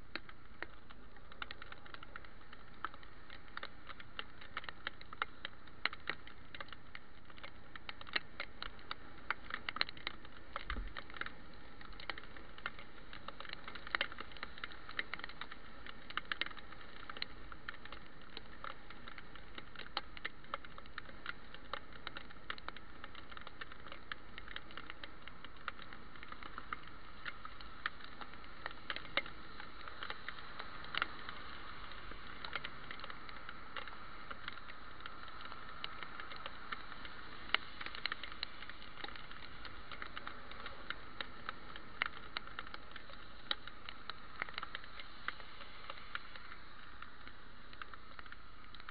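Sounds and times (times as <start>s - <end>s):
muffled hiss: 0.0s - 48.9s
raindrops ticking on camera: 0.0s - 48.9s.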